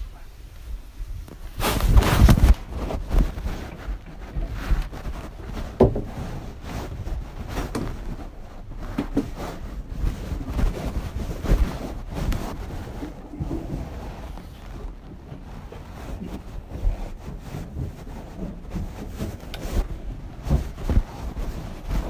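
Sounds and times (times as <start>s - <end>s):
rumbling and rustling of movement: 0.0s - 22.0s.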